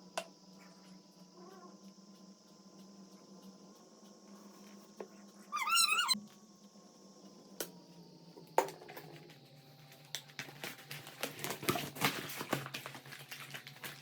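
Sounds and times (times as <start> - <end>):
steady low hum: 0.0 - 11.3.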